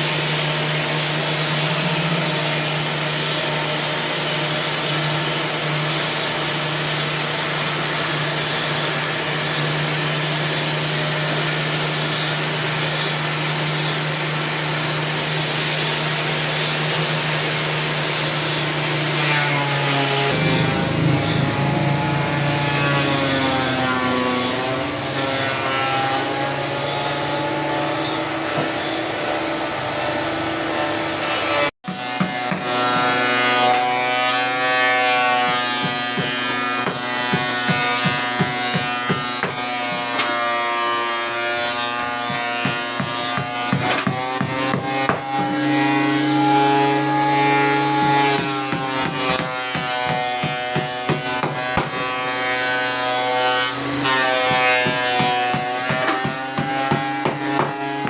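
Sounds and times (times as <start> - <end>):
electric woodworking tool running: 0.0 - 58.0.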